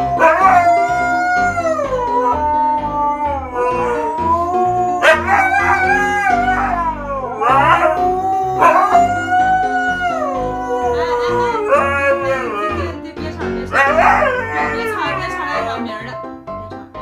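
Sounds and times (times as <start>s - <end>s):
dog howling: 0.0s - 12.9s, 13.7s - 15.8s
background music with bass: 0.0s - 17.0s.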